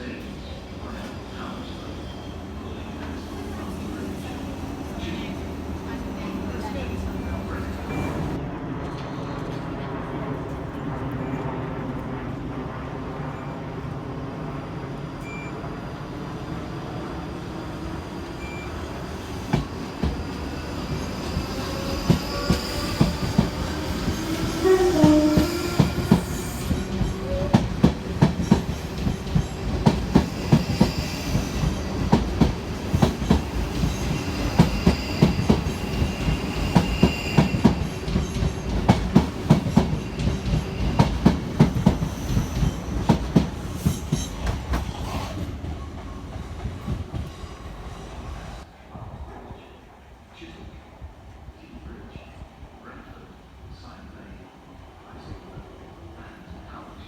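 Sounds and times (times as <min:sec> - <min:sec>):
train rumbling past: 0:00.0 - 0:51.5.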